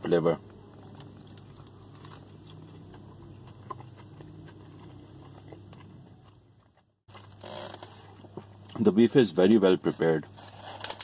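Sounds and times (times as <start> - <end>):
low steady hum: 0.0 - 11.0
biting and chewing food: 0.5 - 9.2, 9.8 - 11.0.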